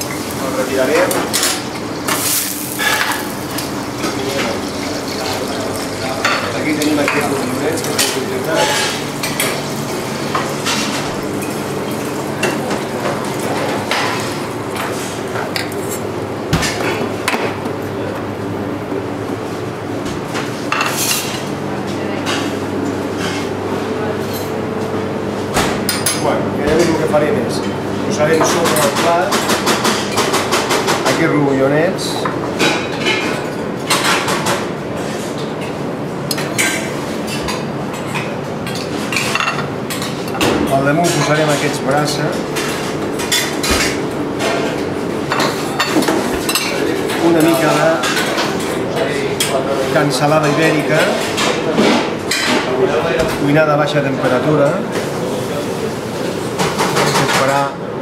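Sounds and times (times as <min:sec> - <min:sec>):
low kitchen hum: 0:00.0 - 0:58.0.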